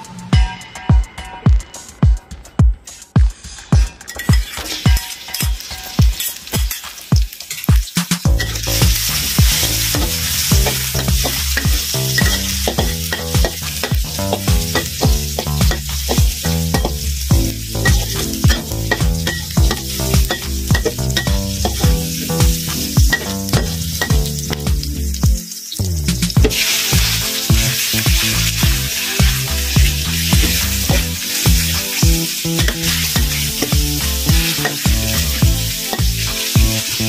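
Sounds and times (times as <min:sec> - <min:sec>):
chilies and garlic sizzling in oil: 0:03.5 - 0:37.0
metal spatula scraping a wok: 0:03.6 - 0:07.7, 0:08.4 - 0:24.1, 0:26.4 - 0:37.0.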